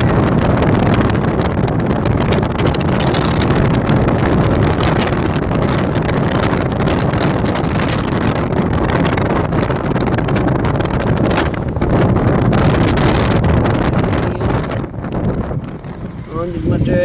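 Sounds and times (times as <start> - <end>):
moving vehicle running noise: 0.0 - 17.0
wind buffeting microphone: 0.0 - 17.0.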